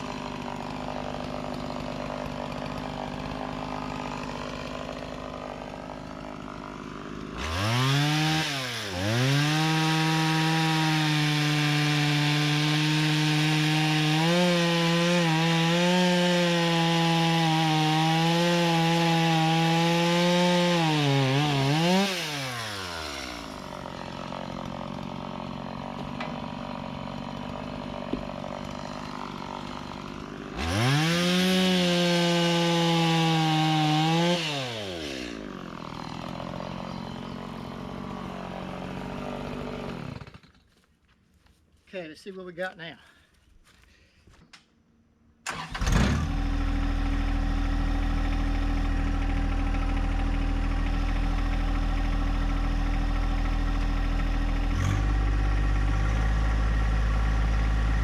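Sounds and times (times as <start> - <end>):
chainsaw revving through wood: 0.0 - 40.7, 45.5 - 58.0.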